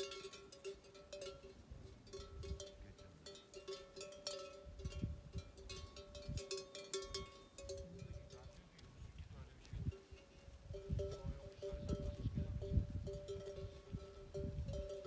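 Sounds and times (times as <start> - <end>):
sheep bells clinking: 0.0 - 15.0.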